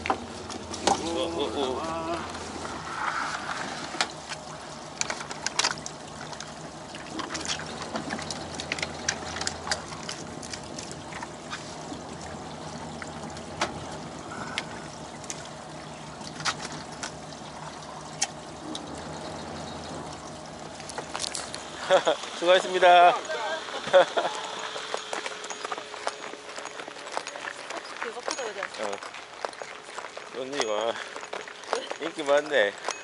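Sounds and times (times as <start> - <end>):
low hum: 0.0 - 33.0
water trickling and pouring: 0.0 - 33.0.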